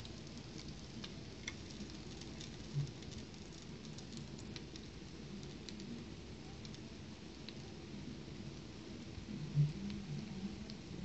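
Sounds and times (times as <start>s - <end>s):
batter sizzling in oil: 0.0s - 9.4s.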